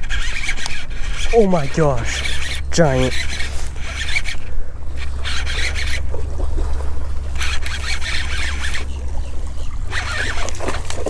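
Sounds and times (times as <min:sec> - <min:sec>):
gritty fishing reel cranking: 0:00.0 - 0:06.0, 0:07.2 - 0:09.0, 0:09.6 - 0:11.0
fish splashing: 0:00.1 - 0:11.0
steady low rumble: 0:00.9 - 0:11.0.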